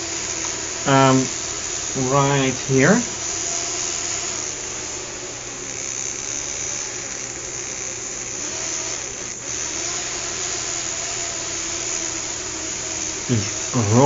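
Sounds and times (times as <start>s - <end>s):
electric motor whirring: 0.0s - 14.0s.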